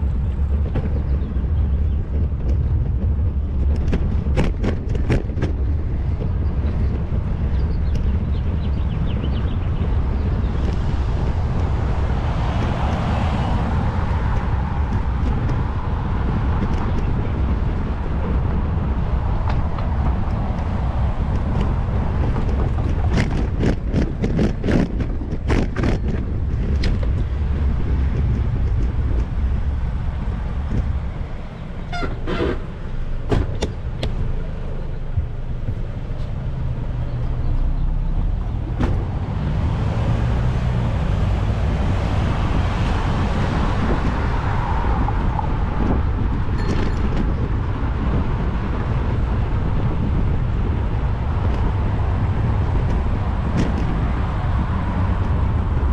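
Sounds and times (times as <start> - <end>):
bicycle rattling over bumps: 0.0 - 55.9
motor traffic passing: 0.0 - 55.9
road rumble: 0.0 - 55.9
wind: 0.0 - 55.9.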